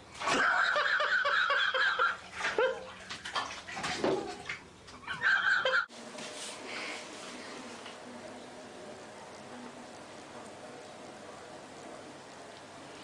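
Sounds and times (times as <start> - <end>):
water splashing in bathtub: 0.0 - 13.0.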